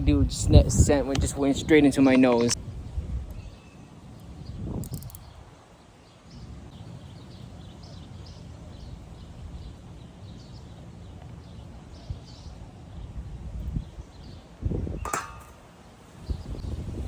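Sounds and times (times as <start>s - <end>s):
small birds chirping: 0.8s - 17.0s.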